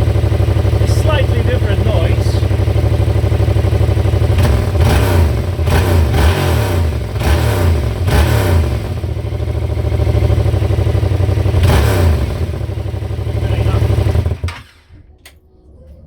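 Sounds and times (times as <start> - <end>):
motorcycle engine revving and idling: 0.0 - 14.9.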